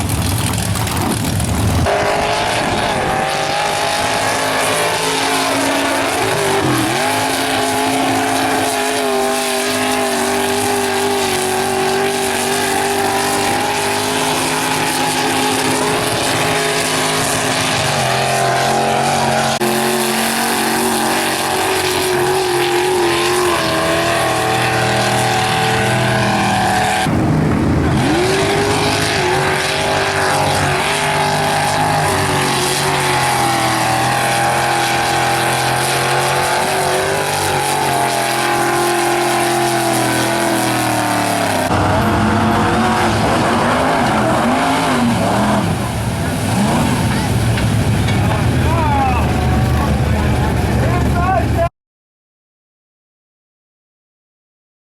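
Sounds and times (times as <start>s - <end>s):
truck engines revving: 0.0s - 51.7s.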